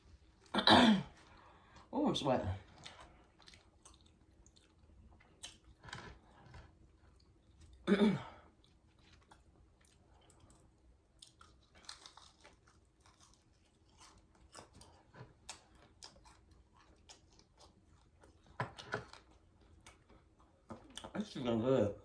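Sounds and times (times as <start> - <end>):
person chewing close up: 2.6 - 7.8, 8.4 - 21.3.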